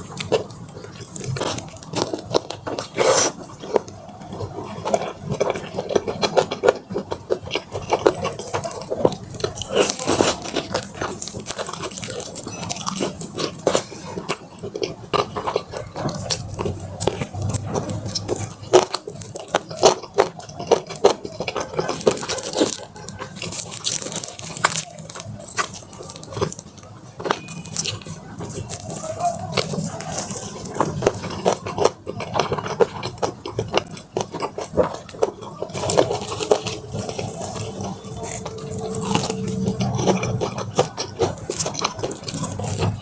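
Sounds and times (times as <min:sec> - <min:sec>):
crunching fried chicken: 0:00.0 - 0:43.0
wet chewing: 0:00.0 - 0:43.0.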